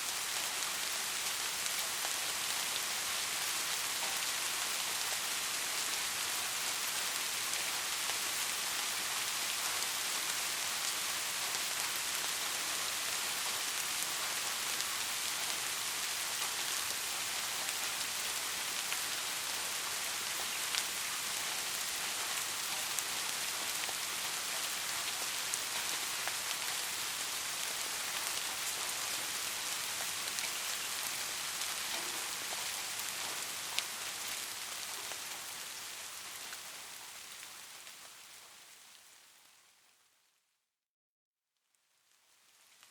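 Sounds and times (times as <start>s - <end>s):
soft rain hissing: 0.0s - 40.4s, 41.6s - 42.9s.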